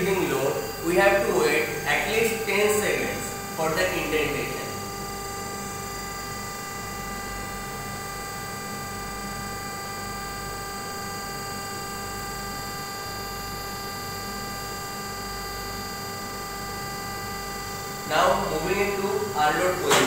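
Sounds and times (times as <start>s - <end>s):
machine humming with high whine: 0.0s - 20.0s.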